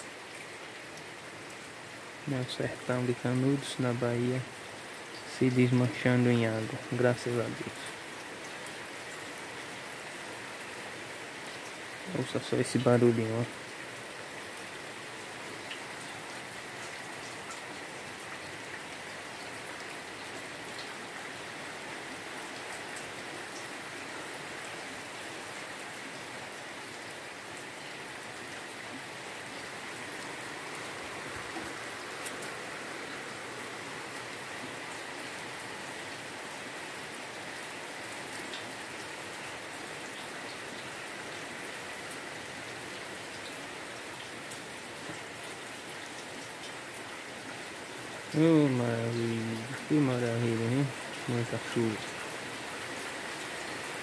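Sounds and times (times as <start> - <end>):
rain drumming on corrugated roof: 0.0 - 54.0
rain splashing on concrete: 0.0 - 54.0.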